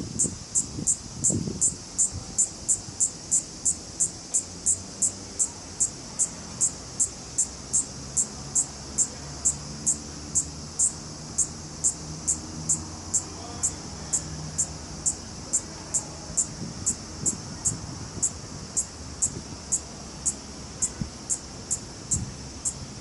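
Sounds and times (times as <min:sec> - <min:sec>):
cicada buzzing pulses: 0:00.0 - 0:23.0.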